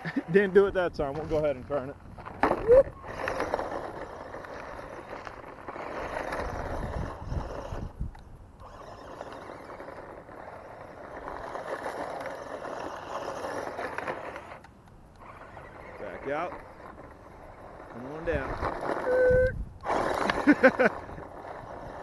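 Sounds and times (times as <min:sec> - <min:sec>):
tyres churning dirt: 0:00.0 - 0:22.0
electric motor and gears whining: 0:03.0 - 0:22.0.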